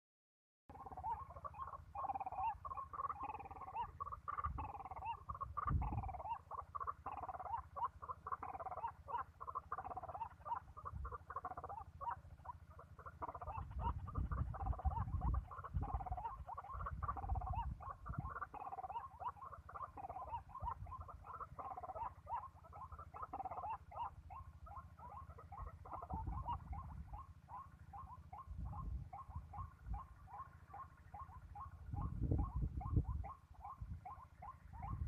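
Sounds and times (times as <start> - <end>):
bird croaking calls: 0.7 - 35.0.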